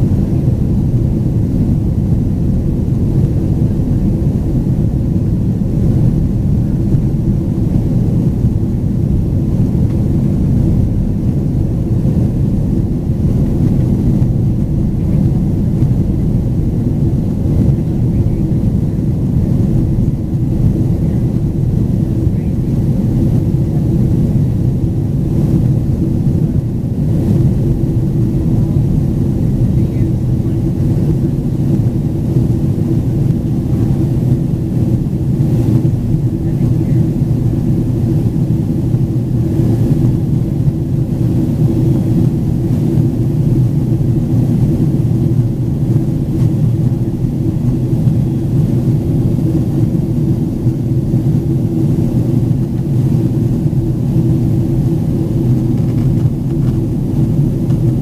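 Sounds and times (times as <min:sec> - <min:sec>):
jet engines heard inside cabin: 0:00.0 - 0:58.0.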